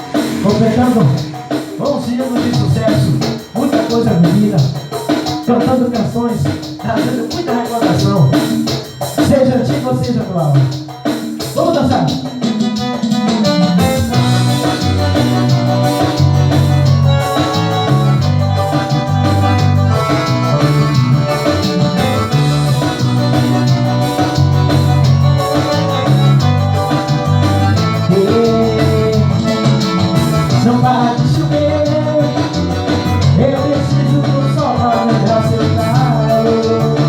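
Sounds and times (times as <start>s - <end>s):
instrumental dance music: 0.0s - 37.0s.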